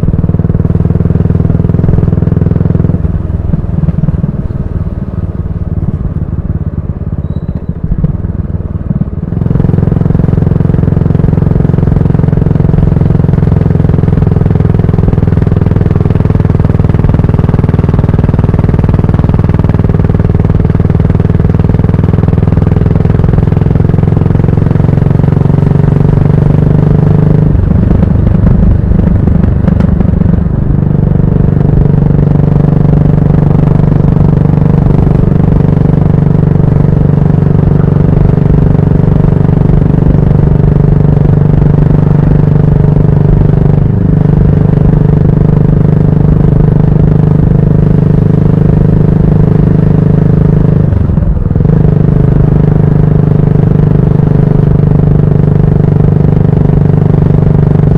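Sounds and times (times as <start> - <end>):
motorcycle exhaust note: 0.0 - 57.9.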